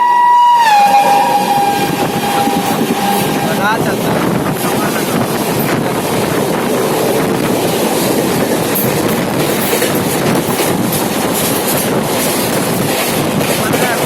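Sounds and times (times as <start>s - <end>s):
train rushing past: 0.0s - 14.0s
wheels clattering on rails: 1.0s - 14.0s.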